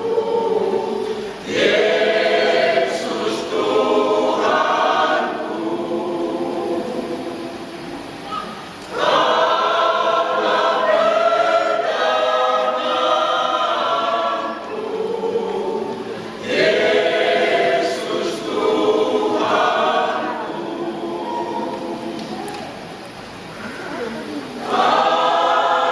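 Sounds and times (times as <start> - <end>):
choir singing: 0.0 - 8.2, 8.9 - 22.4, 24.6 - 25.9.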